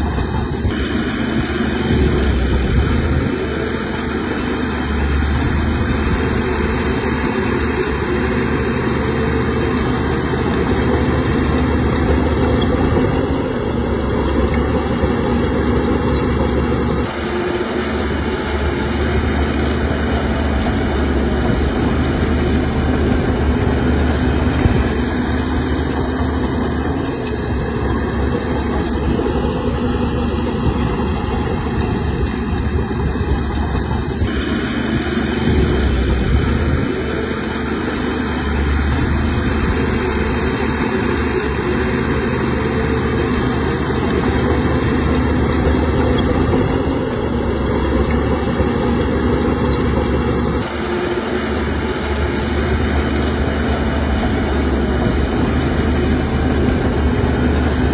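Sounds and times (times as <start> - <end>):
bulldozer pushing sand: 0.0 - 57.9.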